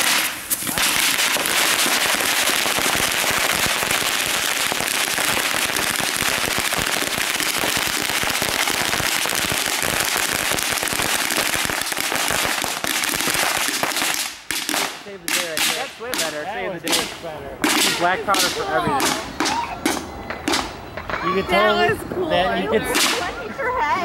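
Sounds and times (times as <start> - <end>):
firework popping and crackling: 0.0 - 21.4, 22.9 - 23.4.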